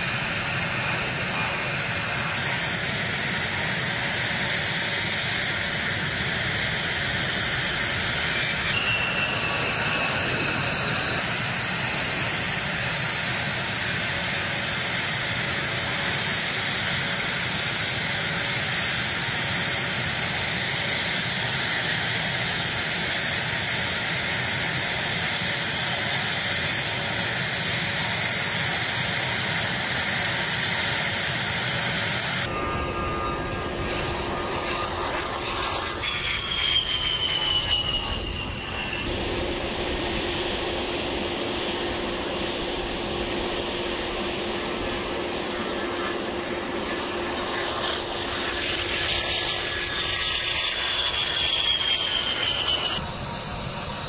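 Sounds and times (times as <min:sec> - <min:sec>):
falling whine: 0:00.0 - 0:54.0
jet engine noise: 0:00.0 - 0:54.0.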